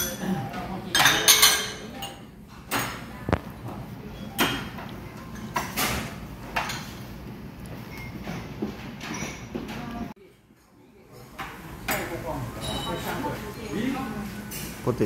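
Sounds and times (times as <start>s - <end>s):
restaurant background noise: 0.0s - 15.0s.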